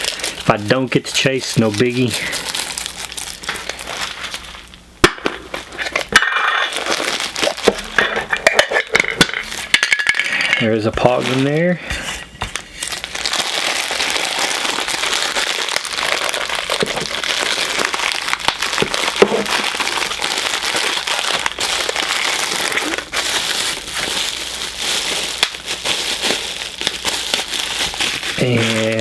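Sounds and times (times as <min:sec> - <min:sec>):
plastic packaging crinkling: 0:00.0 - 0:11.9, 0:12.5 - 0:29.0.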